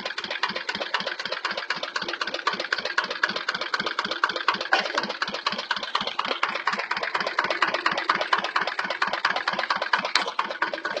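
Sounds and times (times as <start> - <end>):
single-cylinder diesel engine running: 0.0 - 11.0.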